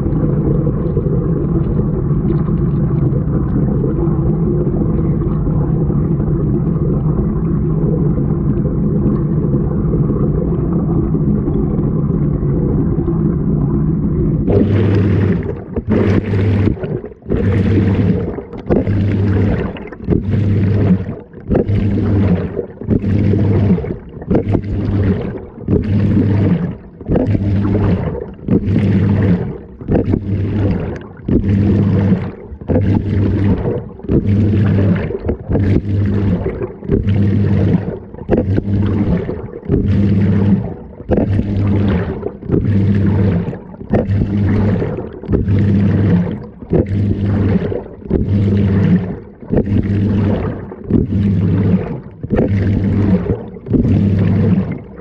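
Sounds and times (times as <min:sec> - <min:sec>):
washing machine low rumble: 0:00.0 - 0:55.0
washing machine rhythmic churning: 0:00.0 - 0:55.0.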